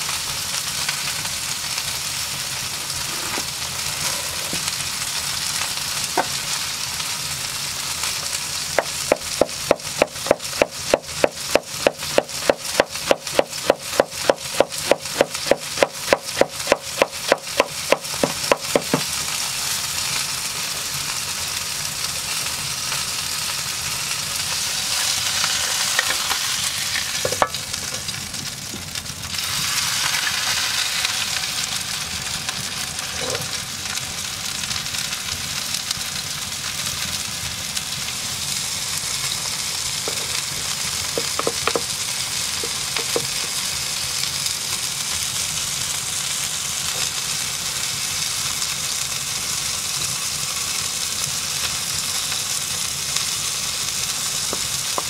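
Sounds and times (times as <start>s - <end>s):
patty sizzling in pan: 0.0s - 55.0s.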